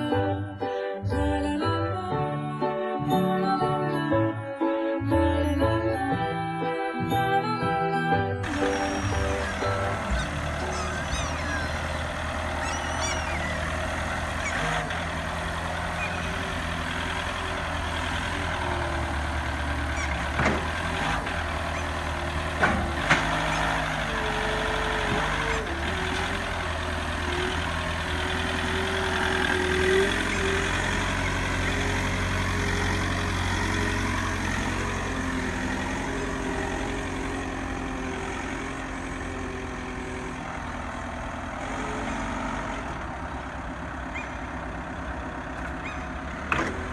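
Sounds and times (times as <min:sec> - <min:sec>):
truck engine running: 0:08.4 - 0:46.9.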